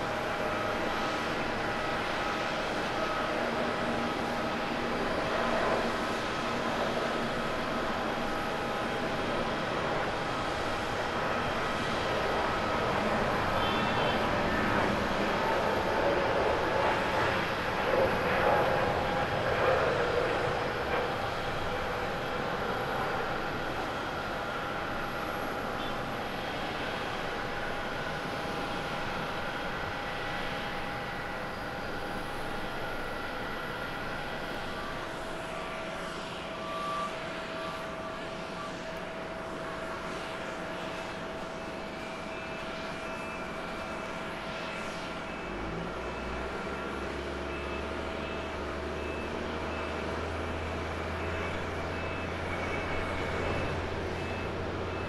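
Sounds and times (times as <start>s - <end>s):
jet airliner taking off: 0.0s - 55.0s.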